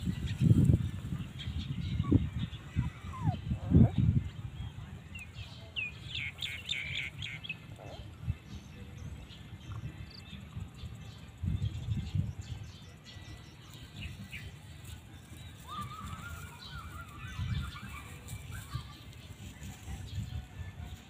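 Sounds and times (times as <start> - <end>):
small birds chirping: 0.0 - 20.5.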